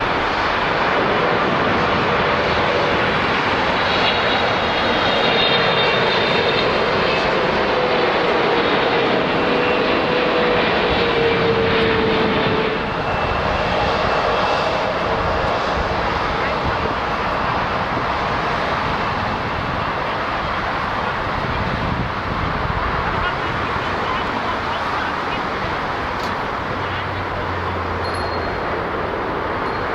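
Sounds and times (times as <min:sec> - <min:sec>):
faint jet engine whine: 0:00.0 - 0:29.9
jet engines roaring: 0:00.0 - 0:29.9.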